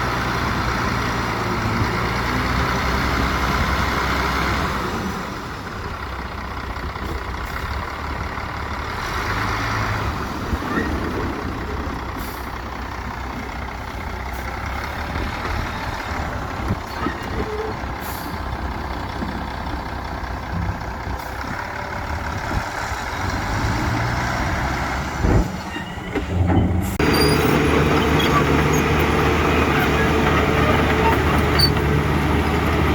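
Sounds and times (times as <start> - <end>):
heavy diesel machinery running: 0.0 - 32.9.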